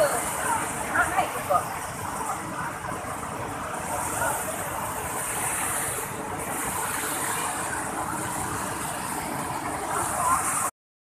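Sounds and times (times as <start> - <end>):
waterfall rushing over rocks: 0.0 - 10.7.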